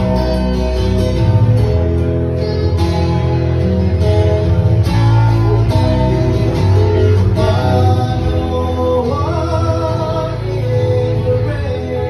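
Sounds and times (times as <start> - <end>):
acoustic guitar strumming: 0.0 - 12.0
bass line: 0.0 - 12.0.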